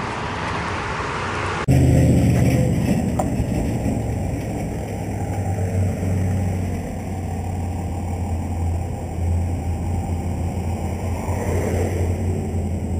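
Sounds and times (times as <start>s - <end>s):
road traffic rumbling: 0.0s - 12.9s.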